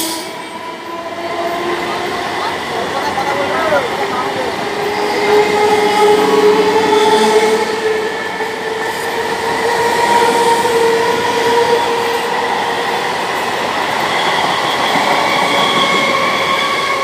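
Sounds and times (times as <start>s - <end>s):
train passing through station: 0.0s - 17.0s.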